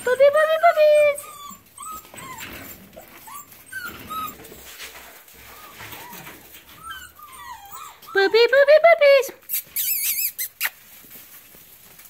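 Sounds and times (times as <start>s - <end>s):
puppies whimpering: 0.0s - 4.7s, 5.3s - 10.6s
paws rustling in wood shavings: 0.0s - 8.5s, 9.3s - 12.0s.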